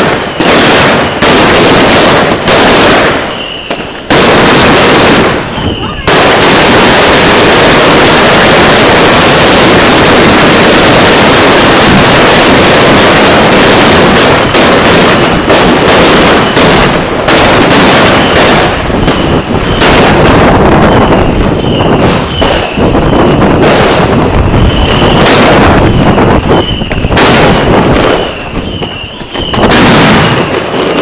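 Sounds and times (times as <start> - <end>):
firecracker bangs and crackle: 0.0 - 31.0
firework whistles: 0.0 - 31.0.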